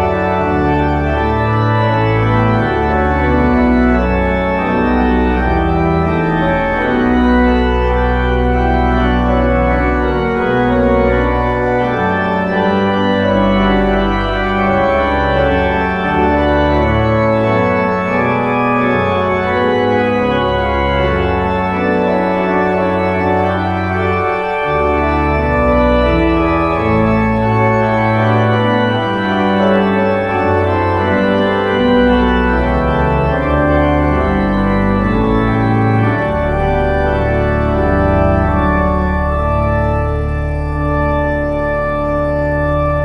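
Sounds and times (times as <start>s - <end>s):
church organ chords: 0.0s - 43.0s.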